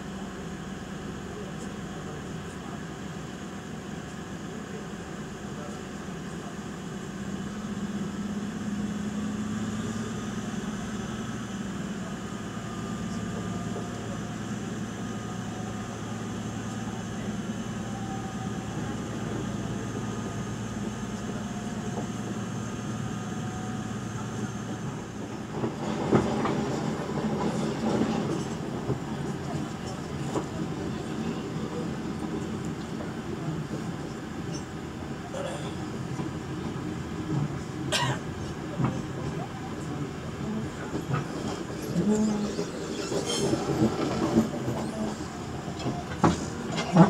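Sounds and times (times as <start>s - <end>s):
train hum and rolling noise: 0.0s - 47.0s.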